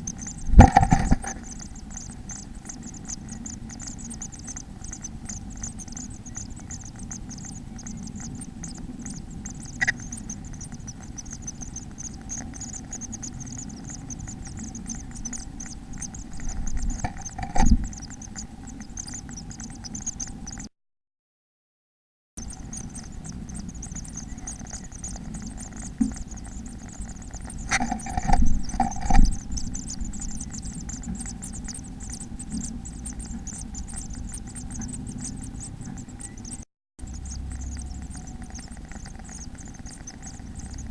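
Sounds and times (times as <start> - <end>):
electrical hum and hiss: 0.0 - 20.7, 22.4 - 40.9.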